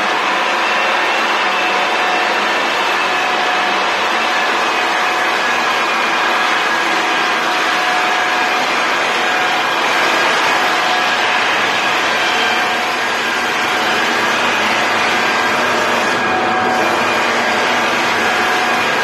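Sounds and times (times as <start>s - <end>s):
floor sanding machine grinding: 0.0s - 19.0s.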